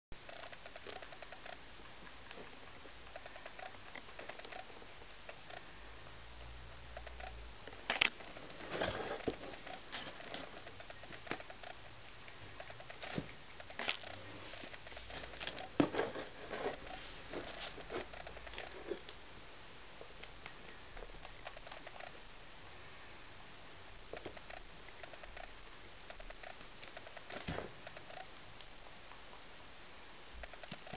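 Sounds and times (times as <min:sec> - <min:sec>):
rabbits chewing: 0:00.2 - 0:29.5, 0:30.3 - 0:30.9.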